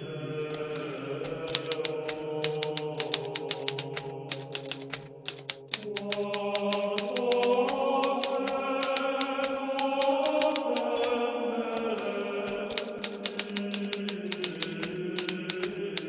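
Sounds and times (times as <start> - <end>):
typewriter key strikes: 0.0 - 16.0.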